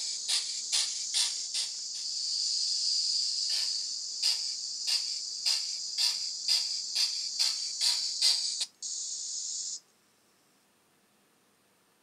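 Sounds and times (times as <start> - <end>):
high steam hiss: 0.0 - 9.8.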